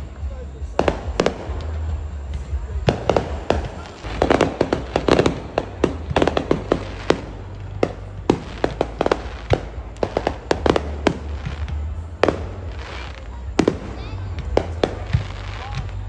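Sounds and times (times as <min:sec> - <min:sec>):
fireworks bangs and pops: 0:00.0 - 0:16.0
low rumble: 0:00.0 - 0:16.0.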